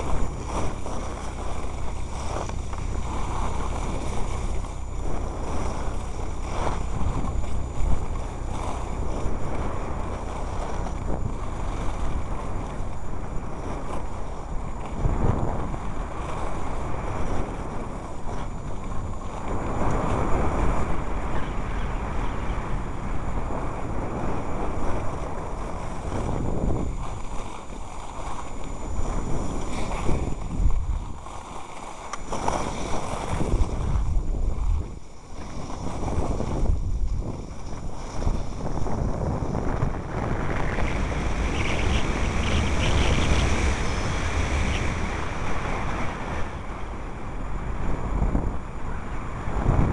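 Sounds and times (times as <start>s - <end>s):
skis sliding over snow: 0.0s - 49.9s
wind buffeting microphone: 0.0s - 49.9s.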